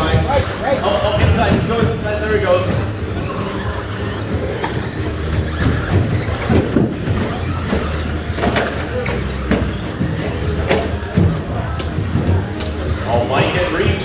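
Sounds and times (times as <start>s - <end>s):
rc trucks motor and tyre noise: 0.0s - 14.0s.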